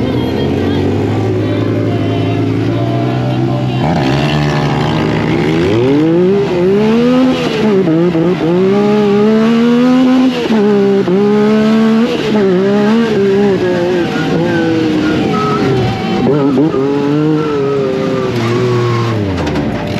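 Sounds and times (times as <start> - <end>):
engine revving hard: 0.0 - 19.9.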